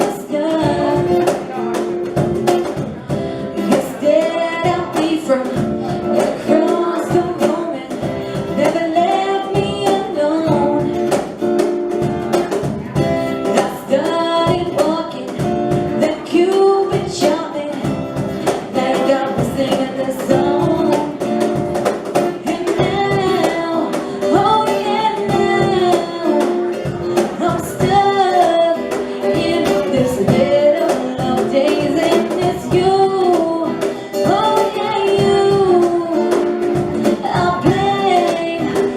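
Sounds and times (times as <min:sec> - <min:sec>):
person singing: 0:00.0 - 0:11.3, 0:12.4 - 0:38.9
plucked guitar: 0:00.0 - 0:38.9
rhythmic beat: 0:00.0 - 0:38.9.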